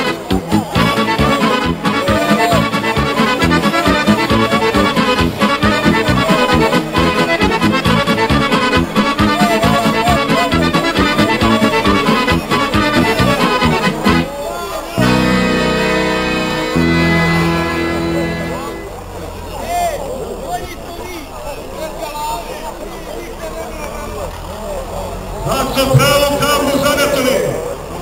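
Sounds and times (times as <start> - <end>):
accordion traditional music: 0.0 - 28.0.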